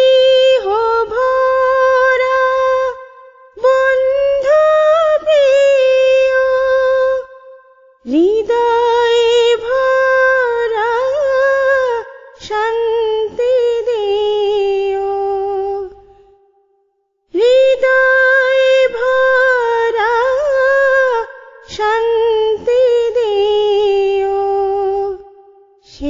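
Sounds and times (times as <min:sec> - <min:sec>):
woman singing unaccompanied: 0:00.0 - 0:16.0, 0:17.3 - 0:26.0.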